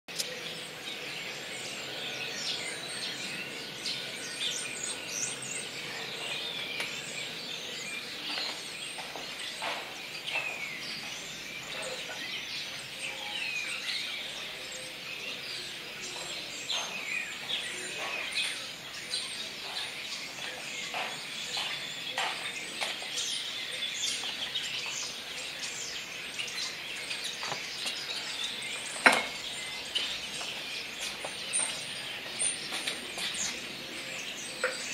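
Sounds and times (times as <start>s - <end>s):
starlings chattering: 0.1s - 34.9s.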